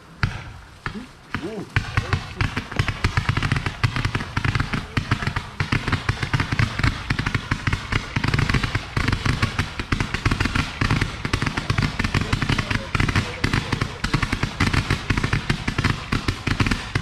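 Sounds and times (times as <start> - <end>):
fireworks crackling: 0.0 - 17.0
heavy firework bangs: 0.0 - 17.0.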